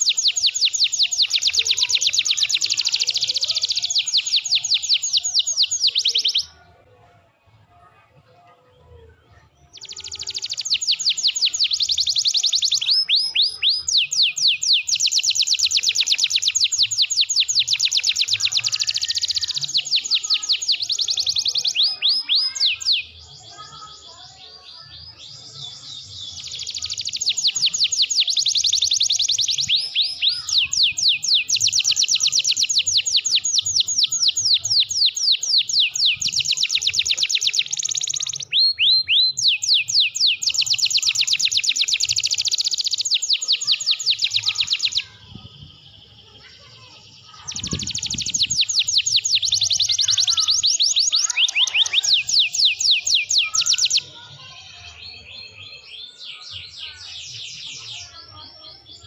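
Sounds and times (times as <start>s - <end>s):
canary singing trills: 0.0s - 6.9s, 8.8s - 59.0s.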